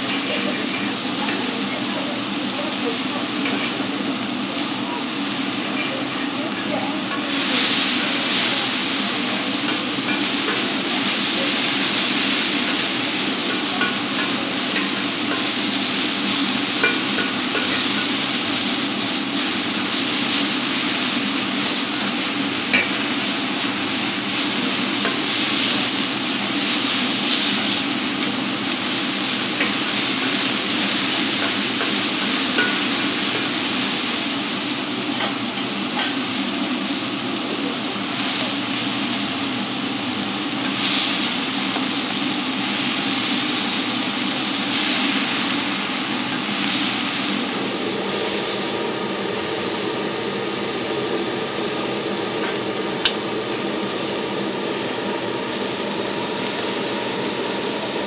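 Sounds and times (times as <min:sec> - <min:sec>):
steak sizzling: 0:00.0 - 0:58.0.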